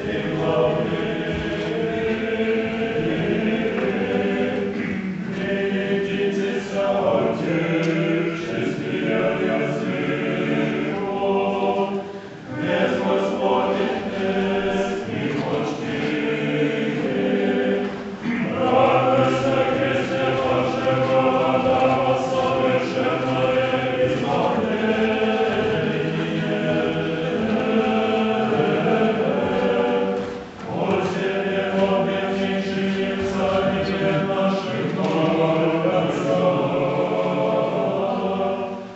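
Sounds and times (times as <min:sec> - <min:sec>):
unaccompanied choir chanting: 0:00.0 - 0:38.9.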